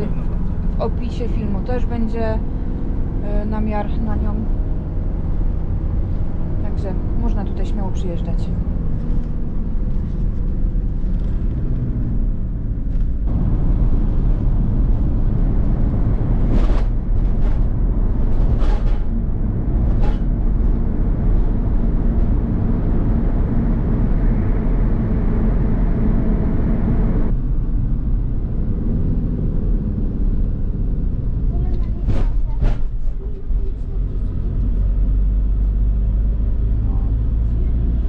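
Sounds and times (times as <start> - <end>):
road noise: 0.0 - 38.0
vehicle engine rumble: 0.0 - 38.0.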